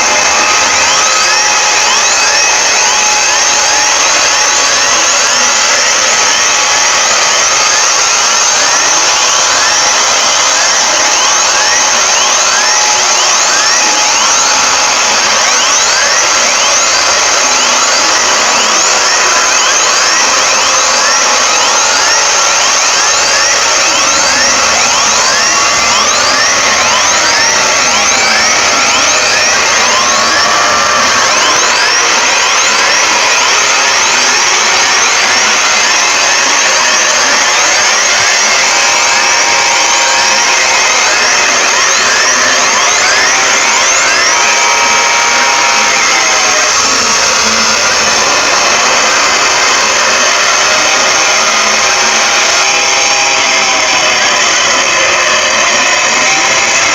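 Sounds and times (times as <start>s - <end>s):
harsh emergency alert alarm: 0.0s - 56.9s
rising pitch sweeps: 0.0s - 56.9s.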